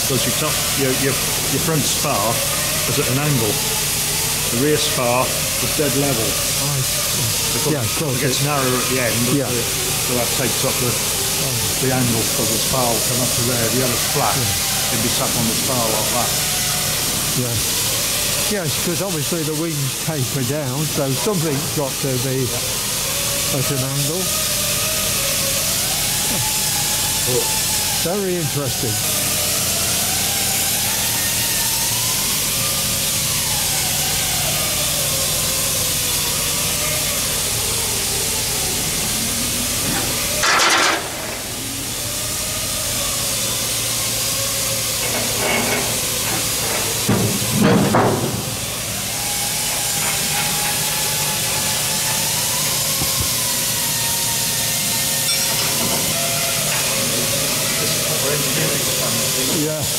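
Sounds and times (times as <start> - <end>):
steady loud hiss: 0.0 - 59.9.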